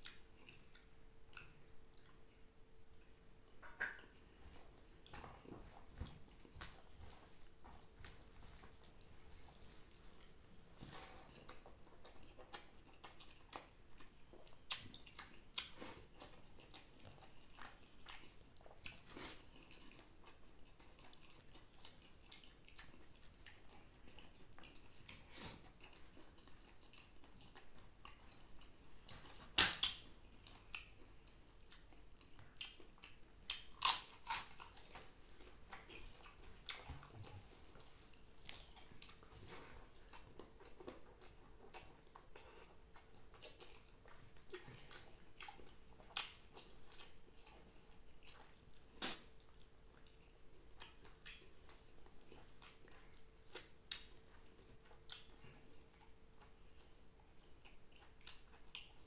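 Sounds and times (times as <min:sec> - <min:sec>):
wet mouth clicks and chewing: 0:00.0 - 0:02.4, 0:03.0 - 0:10.4, 0:11.1 - 0:59.0.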